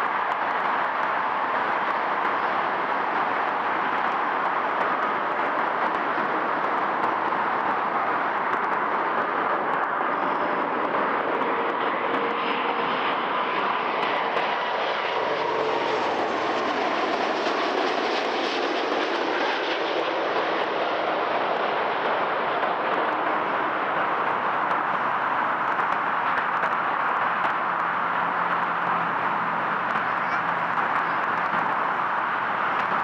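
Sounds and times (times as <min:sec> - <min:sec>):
jet engines passing by: 0:00.0 - 0:33.0.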